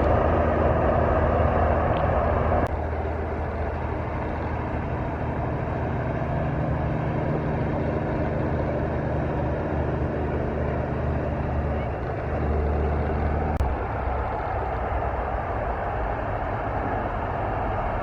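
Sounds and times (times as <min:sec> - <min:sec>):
road noise: 0:00.0 - 0:18.0
truck engine running: 0:00.0 - 0:18.0.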